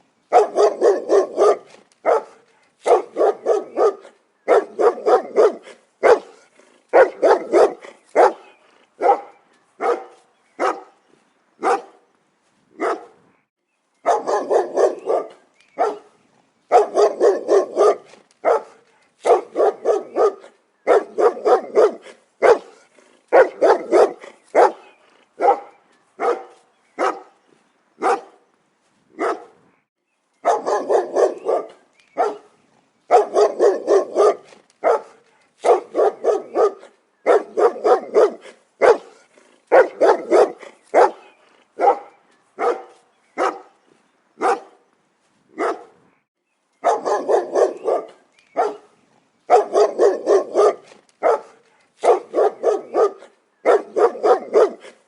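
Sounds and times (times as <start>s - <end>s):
dog barking: 0.3s - 11.0s, 11.6s - 12.0s, 12.8s - 13.2s, 14.0s - 27.4s, 28.0s - 28.4s, 29.2s - 29.6s, 30.4s - 32.5s, 33.1s - 43.8s, 44.4s - 44.8s, 45.6s - 46.0s, 46.8s - 48.9s, 49.5s - 55.0s.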